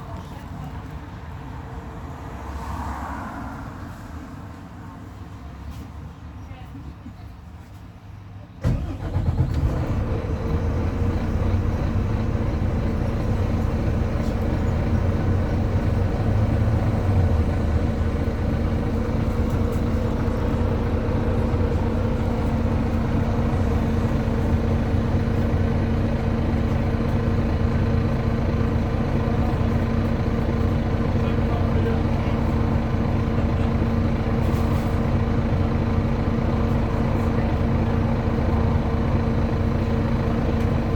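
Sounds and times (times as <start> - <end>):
bus diesel engine running: 4.2 - 40.9.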